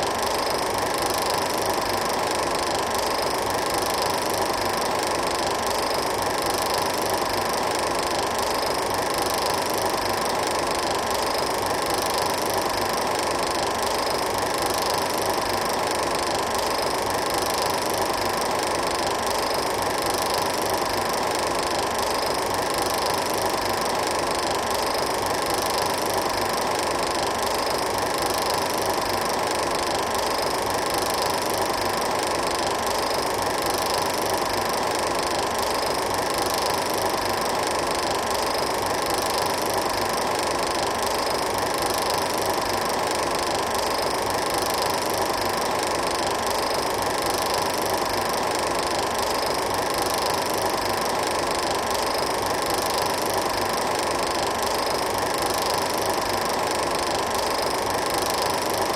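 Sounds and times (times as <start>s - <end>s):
film projector whirring: 0.0s - 58.9s.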